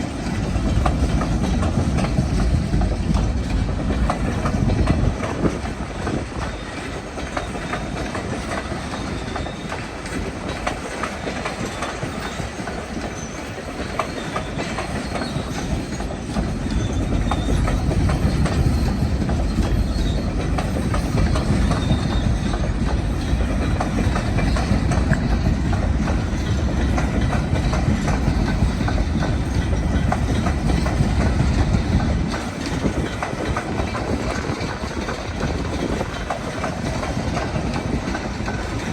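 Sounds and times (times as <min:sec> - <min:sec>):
train cars rumbling past: 0:00.0 - 0:38.9
wheels clicking over rail joints: 0:00.0 - 0:38.9.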